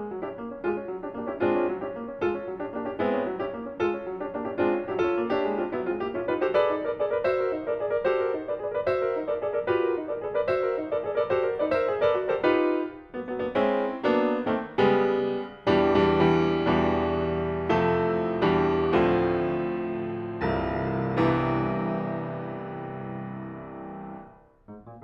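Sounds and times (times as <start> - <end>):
grand piano playing: 0.0 - 25.0.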